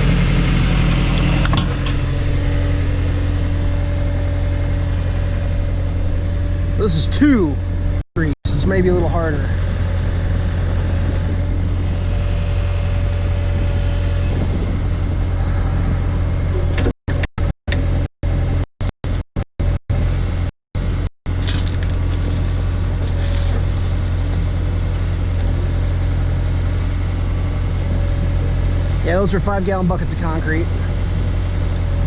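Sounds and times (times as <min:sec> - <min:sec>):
backhoe engine droning: 0:00.0 - 0:32.0.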